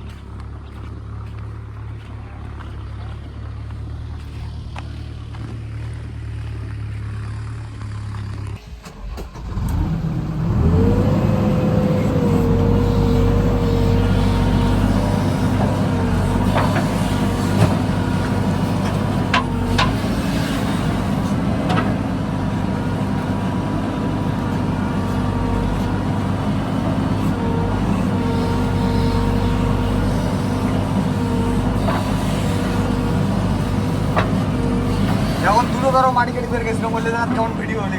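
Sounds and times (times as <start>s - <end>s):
tractor diesel engine: 0.0s - 37.9s.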